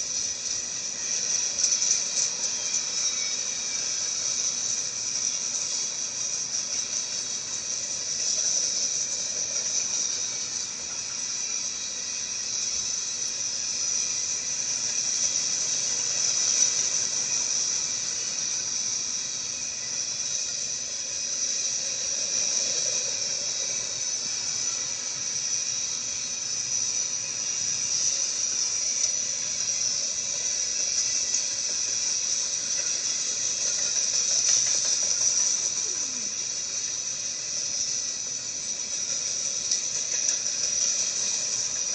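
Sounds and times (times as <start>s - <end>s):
freight train wheels squealing: 0.0s - 41.9s.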